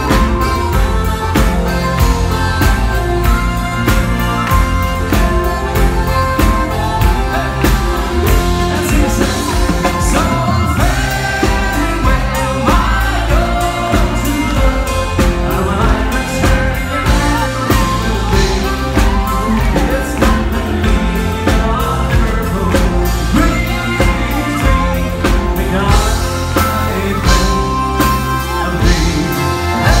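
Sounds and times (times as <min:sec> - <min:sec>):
accordion playing: 0:00.0 - 0:30.0
man singing: 0:00.0 - 0:30.0
steady drum beat: 0:00.0 - 0:30.0.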